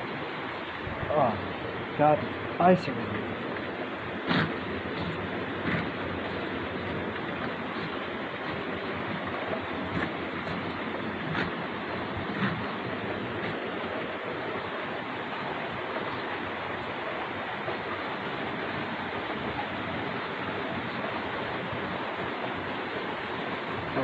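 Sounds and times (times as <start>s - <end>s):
heavy rain downpour: 0.0s - 24.0s
wind: 0.0s - 24.0s.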